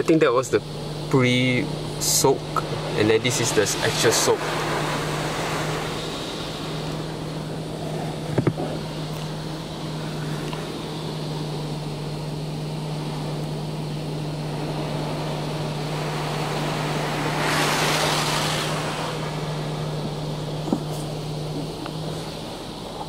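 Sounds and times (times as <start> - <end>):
low hum: 0.0 - 23.0
water spray hissing on car: 0.6 - 23.0.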